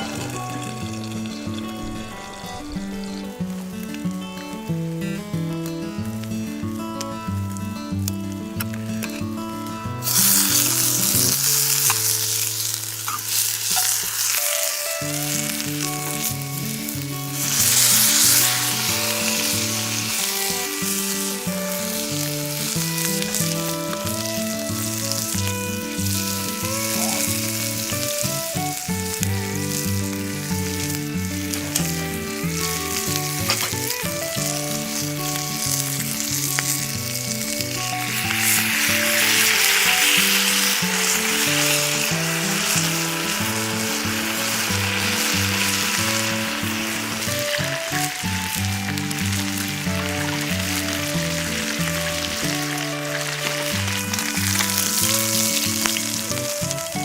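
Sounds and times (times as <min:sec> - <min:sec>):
meat sizzling in a frying pan: 0:00.0 - 0:08.1, 0:10.0 - 0:57.0
background music with melody: 0:00.0 - 0:57.0.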